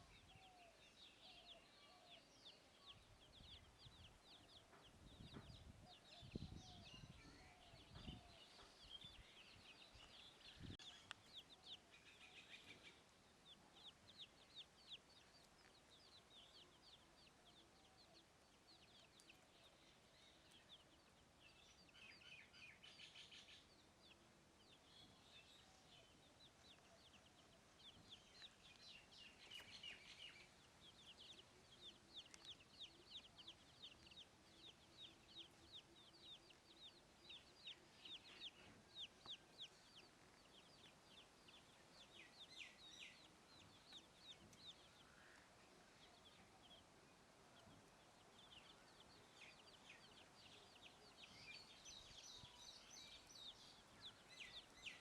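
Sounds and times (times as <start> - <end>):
chicks peeping: 2.6 - 22.2, 22.8 - 55.0.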